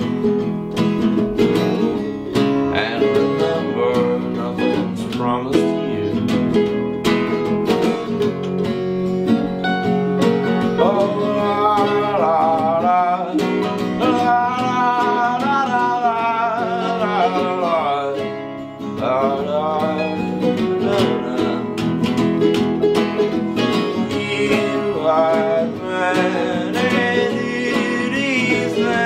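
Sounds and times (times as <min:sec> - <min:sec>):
acoustic guitar: 0:00.0 - 0:29.0.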